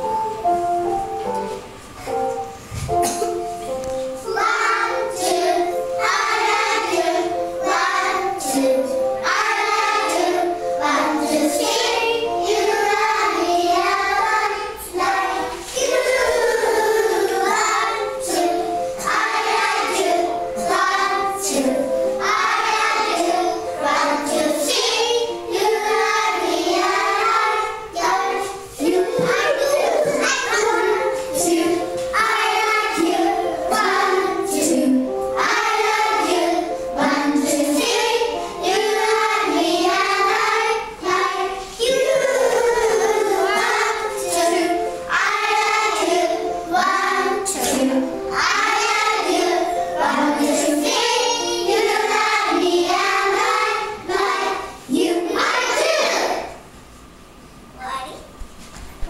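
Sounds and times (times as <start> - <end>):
music with held notes: 0.0 - 56.2
children singing together: 2.9 - 56.6.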